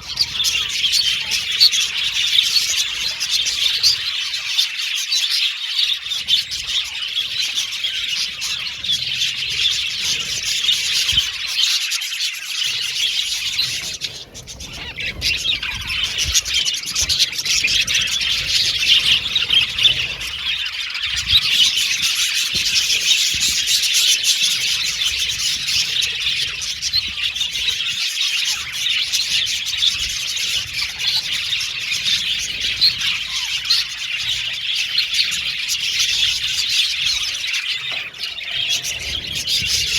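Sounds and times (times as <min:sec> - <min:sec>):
budgies chirping and warbling: 0:00.0 - 0:39.9.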